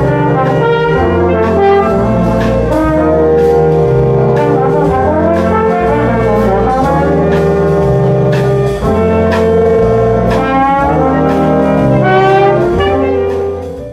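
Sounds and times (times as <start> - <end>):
drum hits: 0.0 - 13.9
jazz big band playing: 0.0 - 13.9
low bass notes: 0.0 - 13.9.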